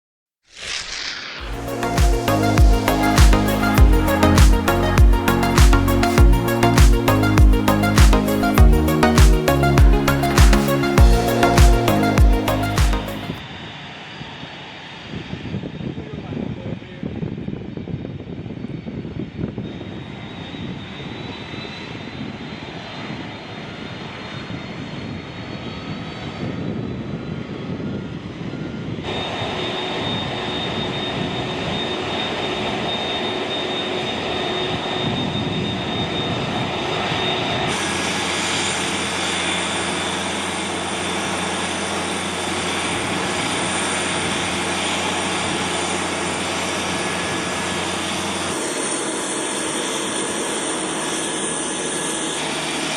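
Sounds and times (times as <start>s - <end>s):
jet engines rumbling and whining: 0.6s - 52.9s.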